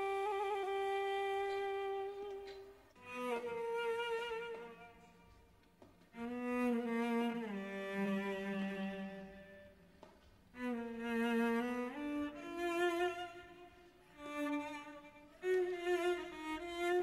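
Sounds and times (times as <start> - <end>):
slow bowed string melody: 0.0 - 9.8, 10.5 - 17.0.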